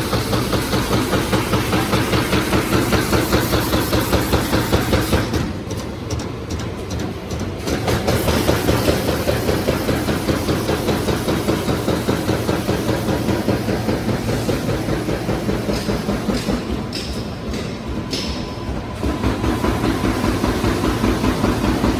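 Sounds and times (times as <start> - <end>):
bag making machine clatter: 0.0 - 21.9.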